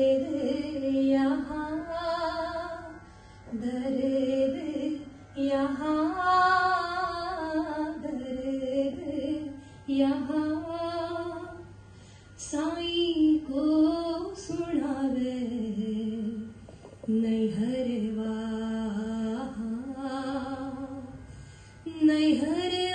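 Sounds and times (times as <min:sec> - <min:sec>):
woman singing devotional song: 0:00.0 - 0:11.7, 0:12.4 - 0:21.2, 0:21.8 - 0:22.9.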